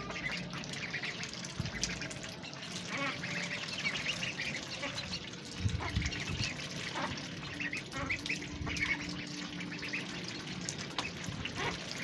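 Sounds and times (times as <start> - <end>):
ducks quacking: 0.0 - 2.1, 2.8 - 12.0.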